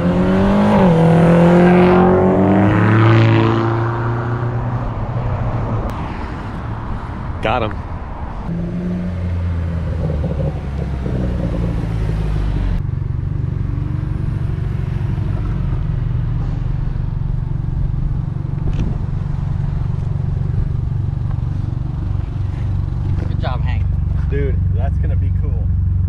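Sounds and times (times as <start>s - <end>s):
car engine revving: 0.0s - 6.2s, 7.4s - 26.0s.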